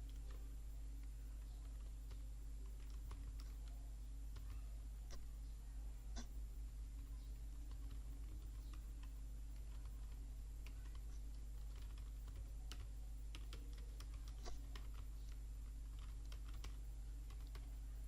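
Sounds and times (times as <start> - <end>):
keyboard typing: 0.0 - 5.3, 7.0 - 17.8
steady low hum: 0.0 - 18.0.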